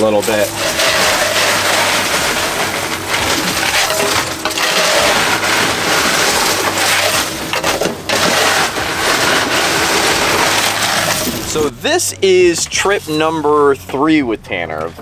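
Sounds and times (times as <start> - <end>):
ice crunching and clattering: 0.0 - 15.0
steady low hum: 0.0 - 15.0.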